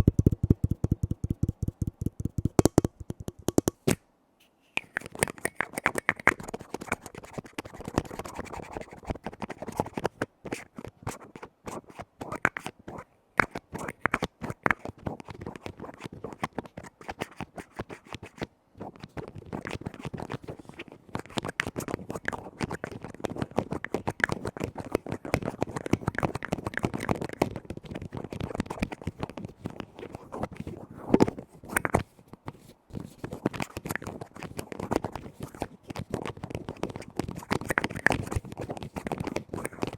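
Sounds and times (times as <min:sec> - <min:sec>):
rapid tapping on lids: 0:00.0 - 0:03.9, 0:04.8 - 0:30.6, 0:33.3 - 0:39.9
scratching on lids: 0:04.7 - 0:39.9.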